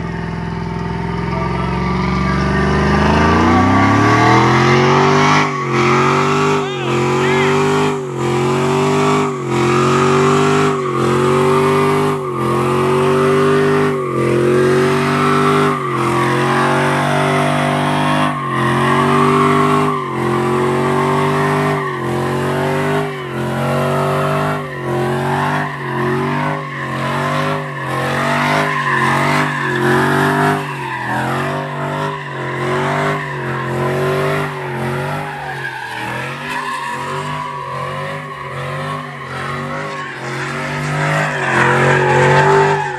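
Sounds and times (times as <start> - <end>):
truck engine at high revs: 0.0 - 42.9
tires squealing and hissing: 1.1 - 42.9.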